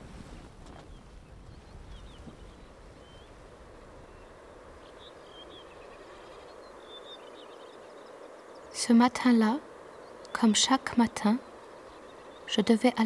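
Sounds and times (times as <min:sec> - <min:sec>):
wind and sea noise: 0:00.0 - 0:13.0.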